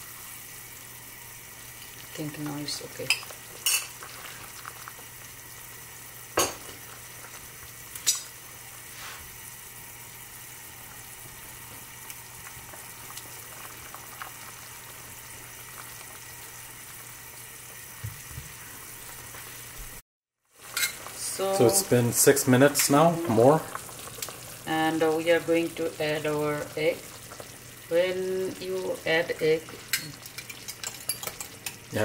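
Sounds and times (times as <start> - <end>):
soup bubbling at a boil: 0.0 - 32.0.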